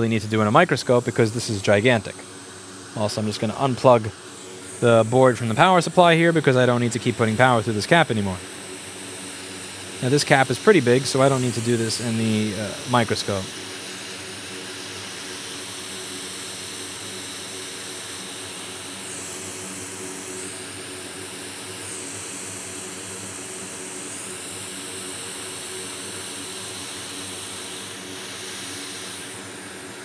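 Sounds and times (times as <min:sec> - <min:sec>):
hot air station whine: 0:00.0 - 0:30.0.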